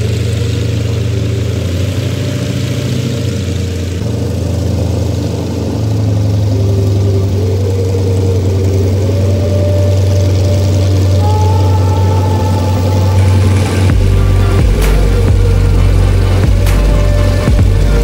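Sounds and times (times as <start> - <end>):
radial plane engine droning: 0.0 - 18.0.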